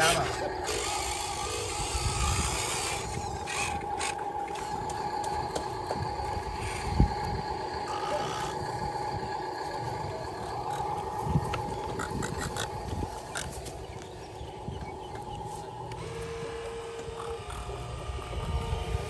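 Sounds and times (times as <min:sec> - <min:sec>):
toy truck motors whirring: 0:00.0 - 0:13.6, 0:15.8 - 0:19.0.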